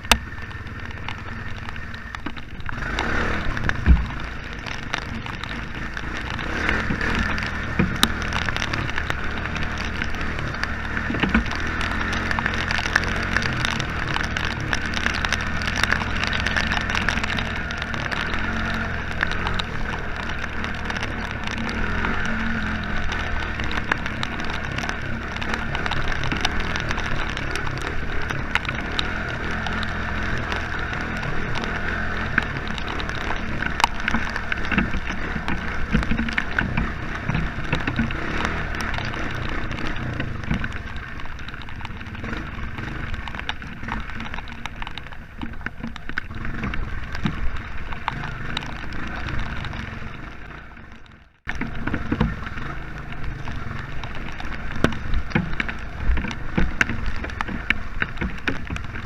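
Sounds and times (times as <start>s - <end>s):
atv engine running: 0.0s - 59.0s
rain and mud crackling on camera: 0.0s - 59.0s.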